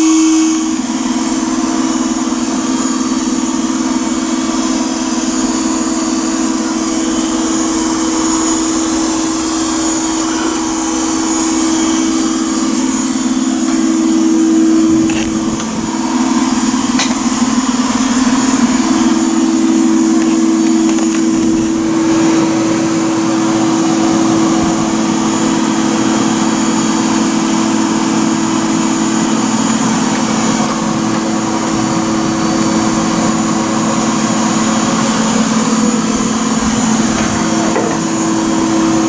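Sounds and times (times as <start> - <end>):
vacuum motor humming: 0.0 - 39.0.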